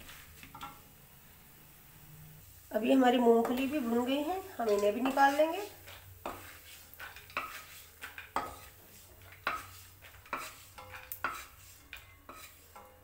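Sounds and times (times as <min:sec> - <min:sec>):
metal spoon scraping a pan: 0:00.0 - 0:00.9, 0:02.9 - 0:13.0.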